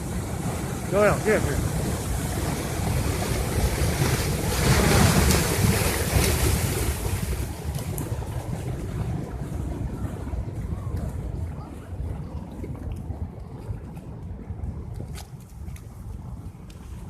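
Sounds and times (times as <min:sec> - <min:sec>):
flood water rushing: 0:00.0 - 0:13.8
wind buffeting microphone: 0:00.0 - 0:17.0.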